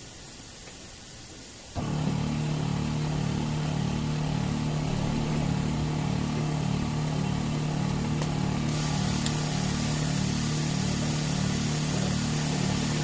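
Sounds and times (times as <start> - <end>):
car engine idling: 1.8 - 13.0.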